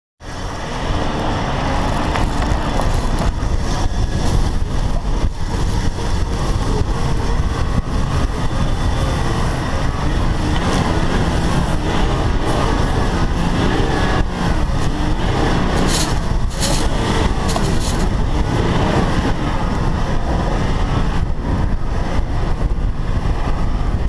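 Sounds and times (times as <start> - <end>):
car engine and tyre noise: 0.2 - 24.0
wind rumbling on microphone: 0.2 - 24.0.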